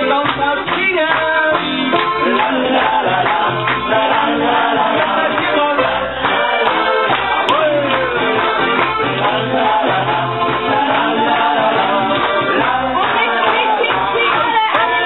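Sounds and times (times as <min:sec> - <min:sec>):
accordion: 0:00.0 - 0:15.0
guitar: 0:00.0 - 0:15.0
people singing: 0:00.0 - 0:15.0.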